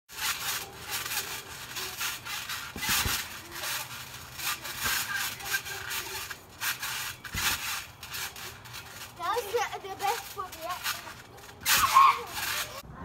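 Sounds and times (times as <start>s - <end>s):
trampoline springs creaking: 0.1s - 12.9s.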